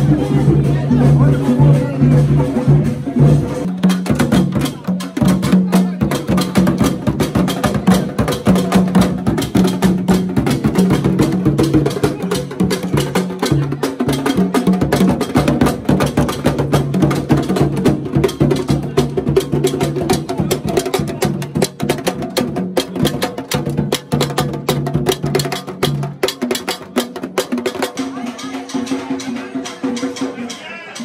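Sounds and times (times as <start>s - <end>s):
fast hand and stick drumming: 0.0s - 31.0s.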